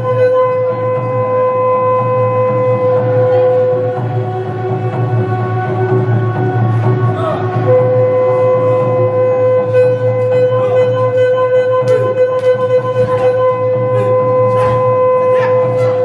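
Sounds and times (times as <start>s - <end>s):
low steady drone: 0.0s - 16.0s
wind instrument long note: 0.0s - 16.0s.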